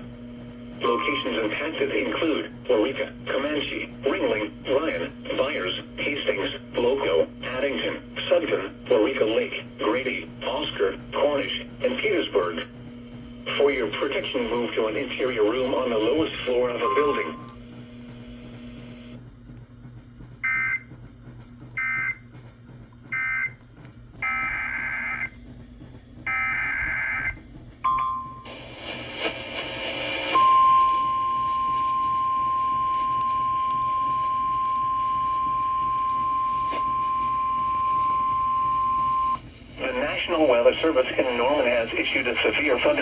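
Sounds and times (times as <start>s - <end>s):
steady warning alarm tone: 0.4s - 19.2s, 20.4s - 43.0s.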